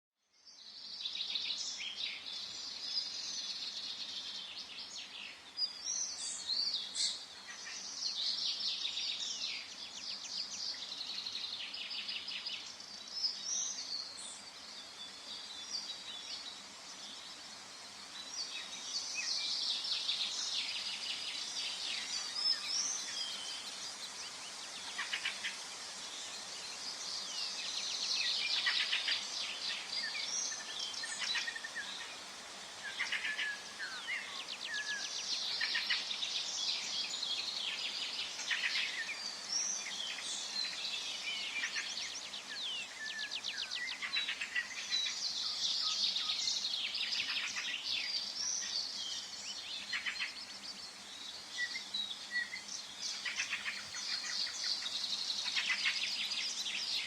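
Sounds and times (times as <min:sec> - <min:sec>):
birds singing chorus: 0:00.2 - 0:57.0.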